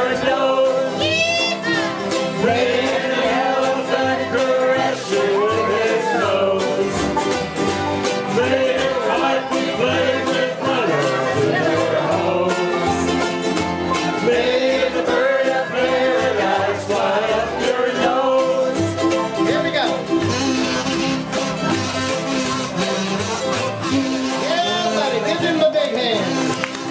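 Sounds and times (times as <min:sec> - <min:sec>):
acoustic string band country tune: 0:00.0 - 0:26.9.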